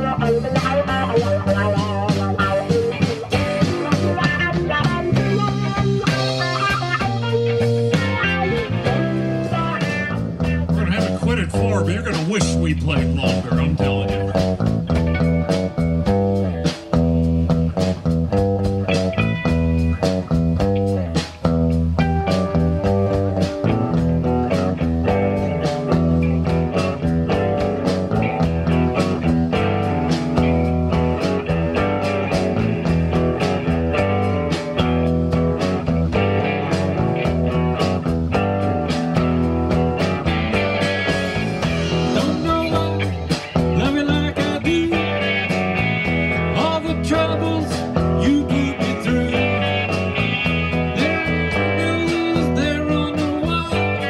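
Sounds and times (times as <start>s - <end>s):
bass guitar: 0.0s - 54.0s
drum kit steady beat: 0.0s - 54.0s
electric guitars: 0.0s - 54.0s.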